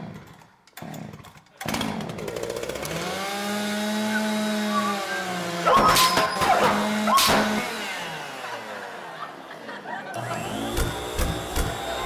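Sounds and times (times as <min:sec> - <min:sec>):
lawnmower engine starting and droning: 0:00.9 - 0:12.0.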